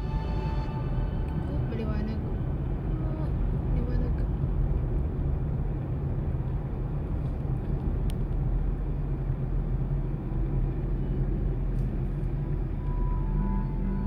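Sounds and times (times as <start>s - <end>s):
road and engine noise in car cabin: 0.0s - 14.0s.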